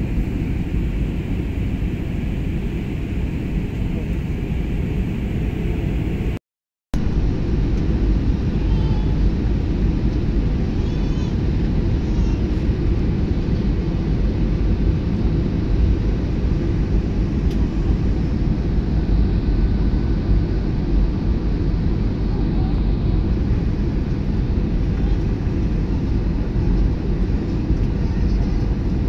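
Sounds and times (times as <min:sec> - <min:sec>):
jet airliner cabin rumble: 0:00.0 - 0:06.4, 0:07.0 - 0:29.0.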